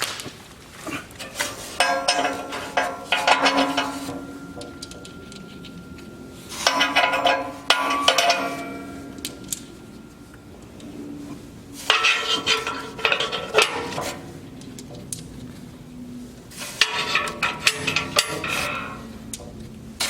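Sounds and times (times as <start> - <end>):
metal stove parts clanking: 1.2 - 14.3, 16.6 - 19.6
ringing metal knocks: 1.8 - 15.1, 16.8 - 20.0.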